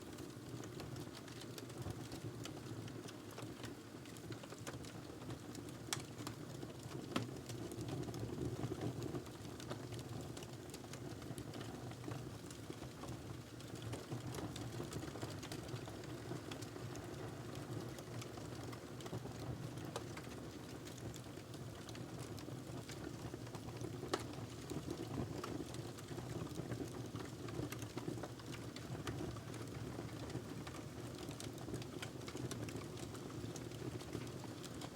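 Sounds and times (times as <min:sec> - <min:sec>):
wood fire crackling: 0:00.1 - 0:08.2, 0:09.2 - 0:34.9.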